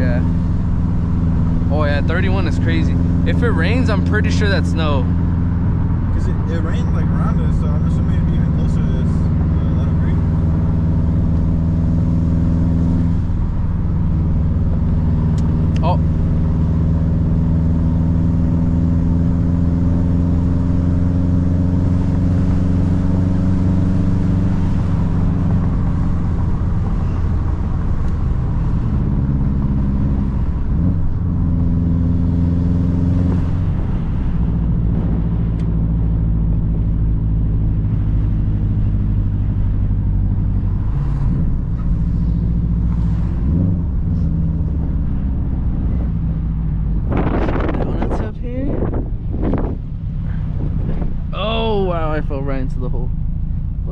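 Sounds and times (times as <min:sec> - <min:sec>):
car engine running under load: 0:00.0 - 0:53.9.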